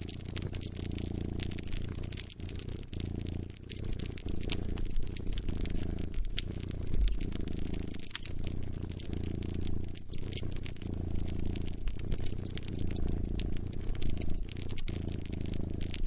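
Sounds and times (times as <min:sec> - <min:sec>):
cat purring: 0:00.0 - 0:16.0
wood fire popping and crackling: 0:00.0 - 0:16.0.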